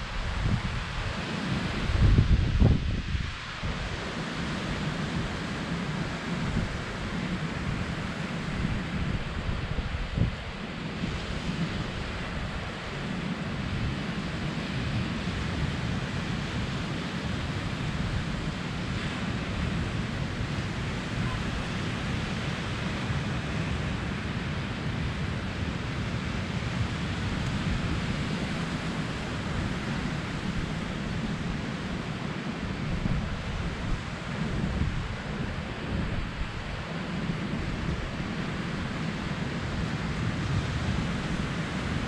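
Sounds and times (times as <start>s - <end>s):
surf breaking on a beach: 0.0s - 42.0s
wind buffeting the microphone: 0.0s - 42.0s.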